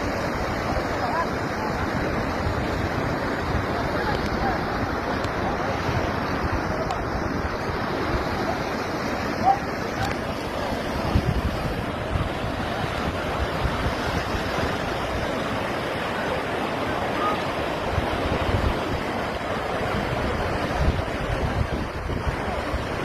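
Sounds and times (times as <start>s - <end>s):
wind buffeting microphone: 0.0s - 16.6s, 17.2s - 23.0s
heavy rain downpour: 0.0s - 23.0s
rushing water runoff: 0.0s - 23.0s.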